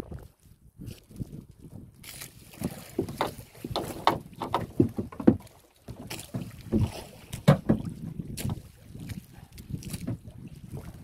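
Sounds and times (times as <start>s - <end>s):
wind on microphone: 0.0s - 5.2s, 6.1s - 11.0s
waves slapping against boat hull: 2.0s - 11.0s.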